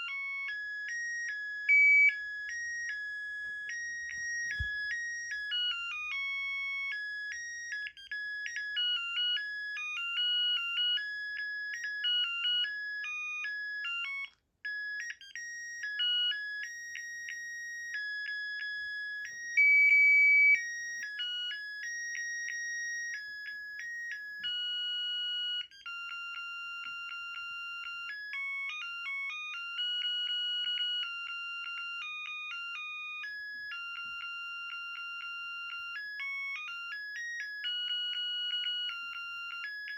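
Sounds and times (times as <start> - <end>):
electronic ringtone melodies: 0.0 - 39.9.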